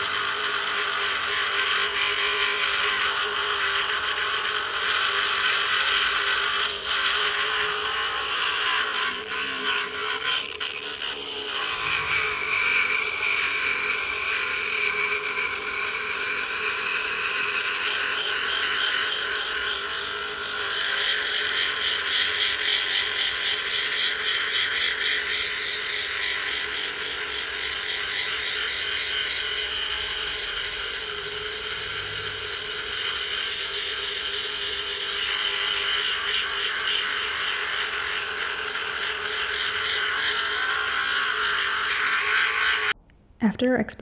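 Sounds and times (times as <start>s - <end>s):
rotary tool grinding shell: 0.0s - 43.0s.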